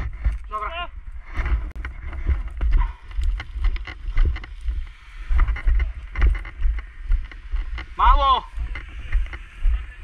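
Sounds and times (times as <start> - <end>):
microphone jostling thumps: 0.0 - 0.6, 1.2 - 9.9
footsteps through dry grass: 0.0 - 10.0.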